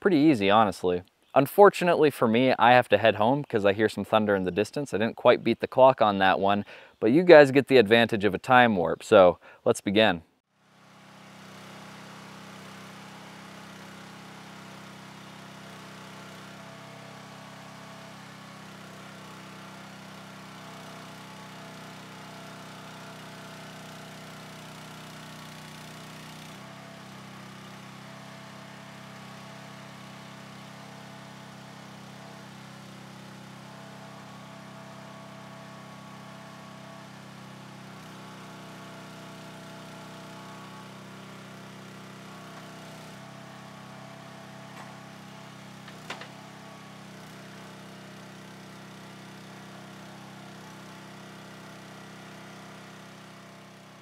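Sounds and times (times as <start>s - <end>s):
engine running steadily: 10.6s - 54.0s.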